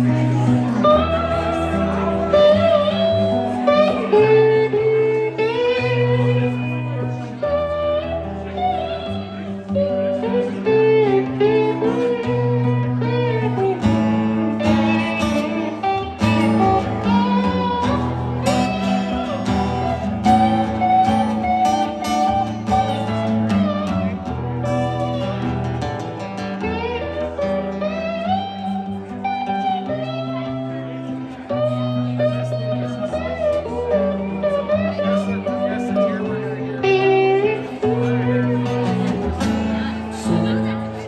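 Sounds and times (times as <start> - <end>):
bass: 0.0 - 41.0
electric guitar lead: 0.0 - 41.0.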